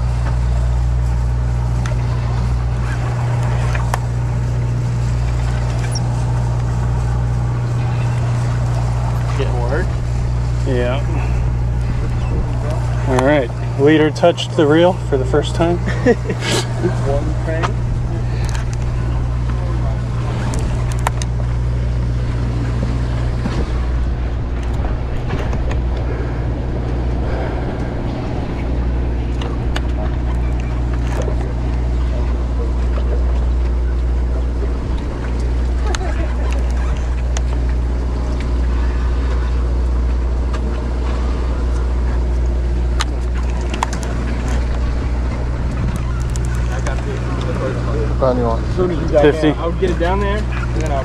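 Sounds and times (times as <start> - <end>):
wind noise: 0.0 - 13.8, 16.4 - 47.4
boat engine humming: 0.0 - 51.0
water wash: 0.0 - 51.0.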